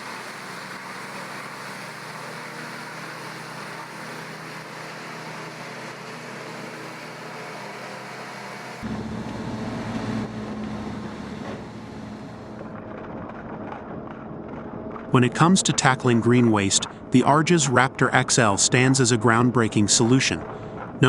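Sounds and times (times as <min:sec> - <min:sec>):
wood chipper running: 0:00.0 - 0:21.0.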